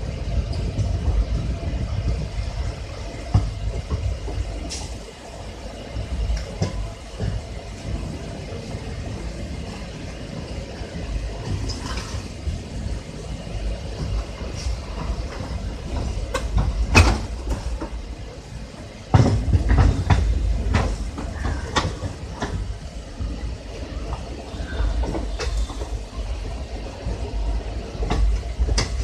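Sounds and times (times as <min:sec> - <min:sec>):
train wheels rumbling on rails: 0:00.0 - 0:29.0
wheels clacking over rail joints: 0:00.0 - 0:29.0.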